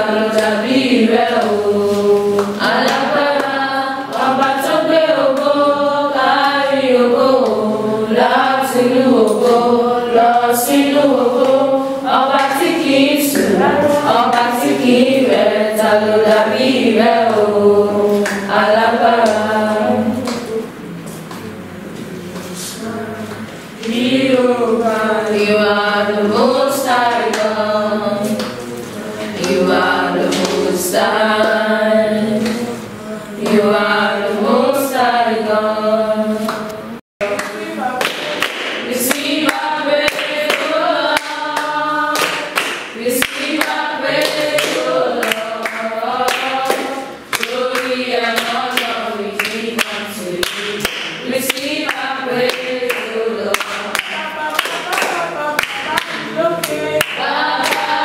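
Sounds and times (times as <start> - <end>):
people clapping in time: 0.0 - 25.5, 26.5 - 31.7, 32.4 - 32.8, 36.4 - 58.0
group of young voices singing: 0.0 - 58.0.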